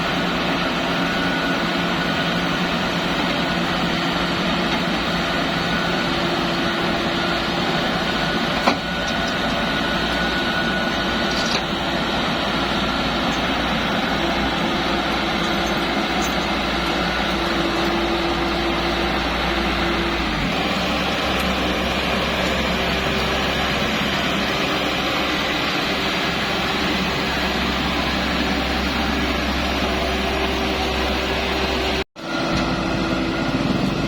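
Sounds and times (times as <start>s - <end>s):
rice thresher droning: 0.0s - 34.0s.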